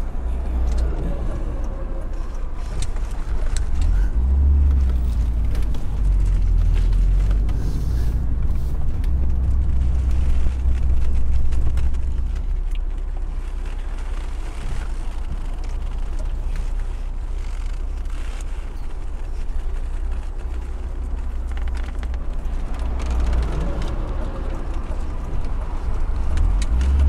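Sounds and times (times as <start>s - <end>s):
deep rumble: 0.0s - 27.0s.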